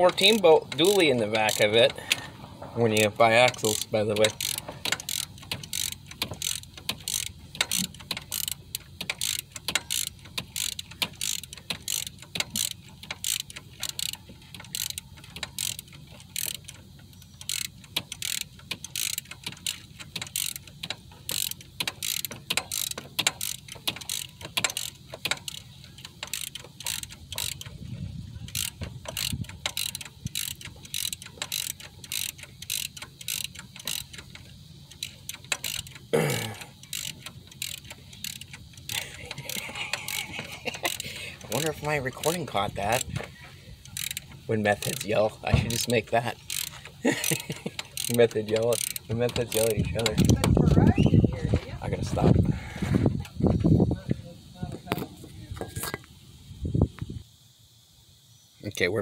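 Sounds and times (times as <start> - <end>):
hand ratchet clicking: 0.0 - 51.5.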